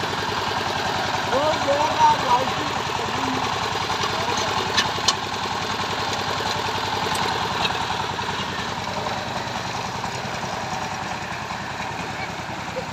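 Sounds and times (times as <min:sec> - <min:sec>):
power tiller engine running: 0:00.0 - 0:12.9.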